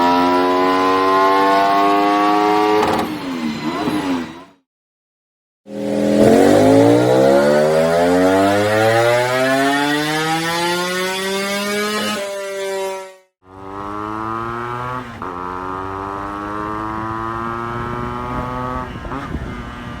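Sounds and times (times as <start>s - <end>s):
motorcycle engine accelerating: 0.0s - 4.5s, 5.7s - 20.0s.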